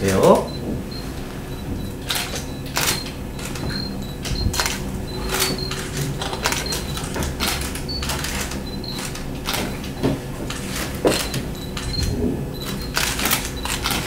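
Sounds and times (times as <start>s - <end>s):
camera shutters clicking: 2.0s - 9.9s, 10.5s - 14.0s.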